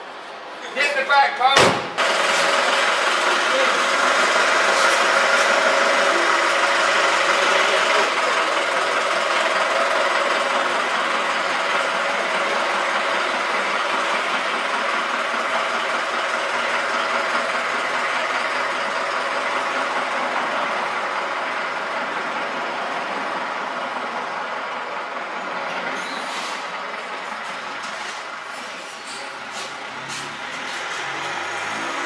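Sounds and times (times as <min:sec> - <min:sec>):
van engine pulling away: 0:02.0 - 0:32.0.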